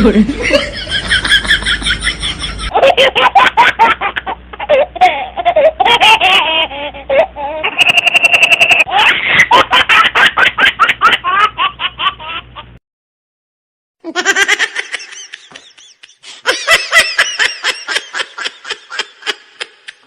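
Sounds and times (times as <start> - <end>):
person laughing: 0.1 - 12.4, 14.0 - 20.0.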